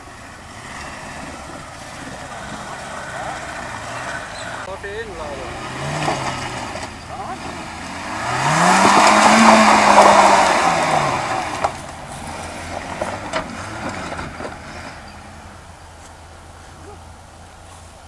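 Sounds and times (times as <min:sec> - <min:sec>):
car engine revving past: 0:00.0 - 0:15.7
tyres on gravel: 0:00.0 - 0:18.0.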